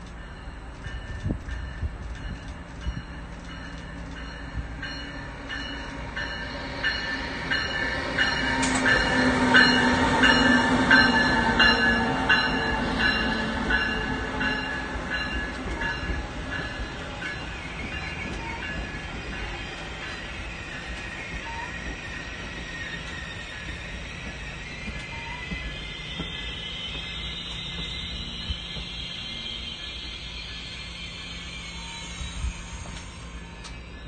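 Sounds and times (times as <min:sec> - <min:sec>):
train wheels clicking over rails: 0:00.0 - 0:33.9
high-pitched ringing: 0:00.2 - 0:34.0.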